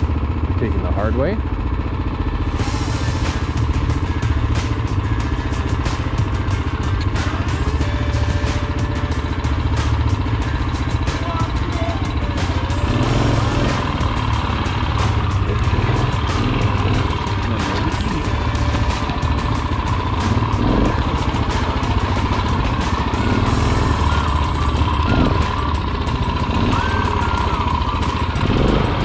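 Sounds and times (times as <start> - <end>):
single-cylinder engine running: 0.0 - 29.0.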